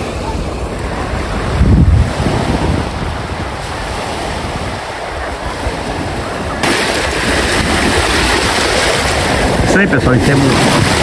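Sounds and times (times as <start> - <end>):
small waves washing on sand: 0.0 - 11.0
wind rumbling on microphone: 0.0 - 11.0.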